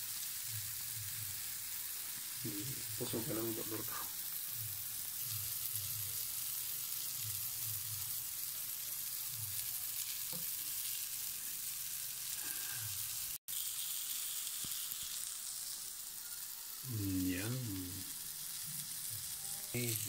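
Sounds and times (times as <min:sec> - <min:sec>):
hot dogs sizzling on grill: 0:00.0 - 0:20.0.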